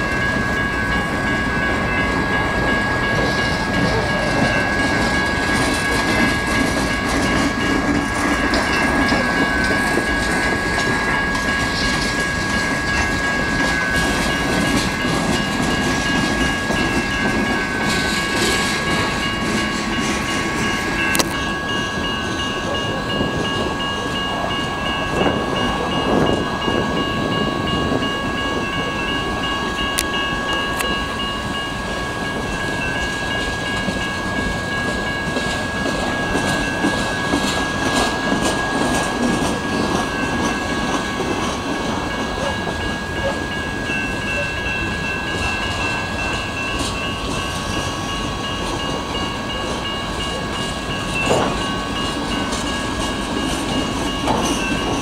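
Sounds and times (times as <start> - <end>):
crossing bells ringing: 0.0 - 55.0
train wheels on rails: 0.0 - 55.0.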